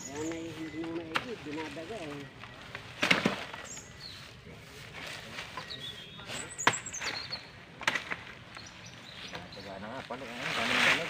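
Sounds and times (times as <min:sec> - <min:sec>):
dry leaves rustling: 0:00.0 - 0:11.0.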